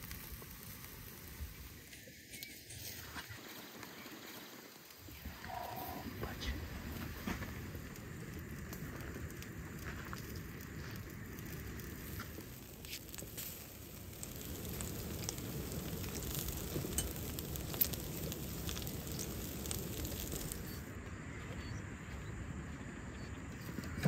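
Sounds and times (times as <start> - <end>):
vegetables sizzling on grill: 0.0 - 20.8
coals crackling and popping: 0.0 - 21.1.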